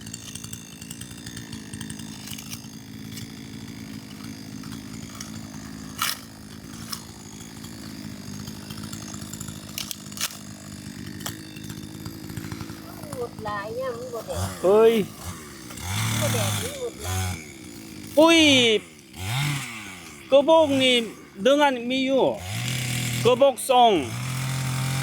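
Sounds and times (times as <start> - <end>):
small engine droning: 0.0 - 25.0.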